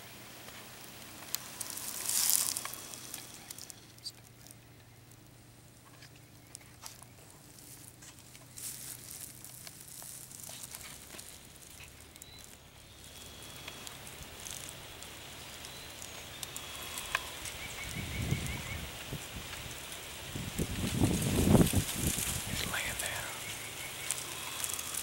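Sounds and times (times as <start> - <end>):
footsteps crunching dry leaves: 1.3 - 3.8, 6.6 - 25.0.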